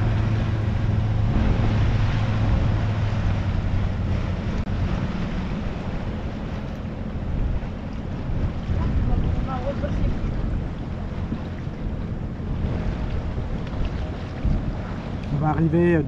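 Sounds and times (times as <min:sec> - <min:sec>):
boat engine humming: 0:00.0 - 0:16.0
water rushing past hull: 0:00.0 - 0:16.0
wind buffeting microphone: 0:00.0 - 0:16.0.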